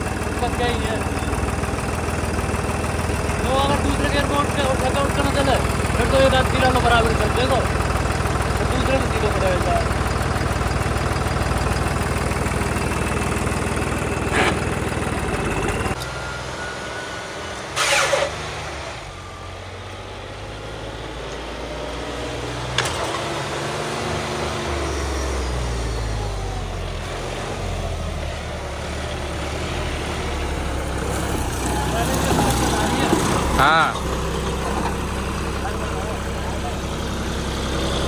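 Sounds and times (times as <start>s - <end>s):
vehicle engine revving: 0.0s - 16.0s, 17.5s - 38.0s.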